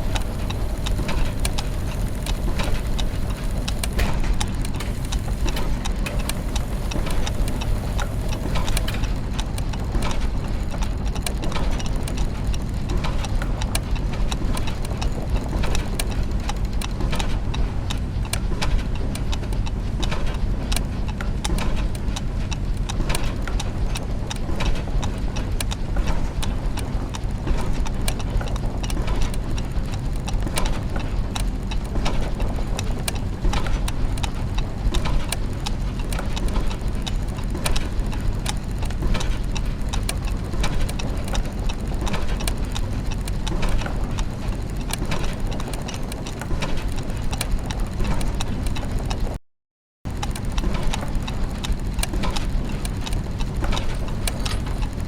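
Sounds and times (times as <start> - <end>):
gears and ratchets ticking: 0.0 - 49.4, 50.1 - 55.0
low mechanical hum: 0.0 - 49.4, 50.1 - 55.0.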